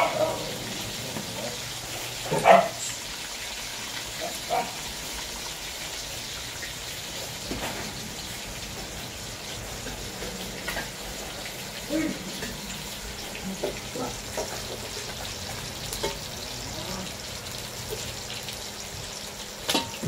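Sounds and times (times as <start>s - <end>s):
food deep-frying in hot oil: 0.0s - 20.0s.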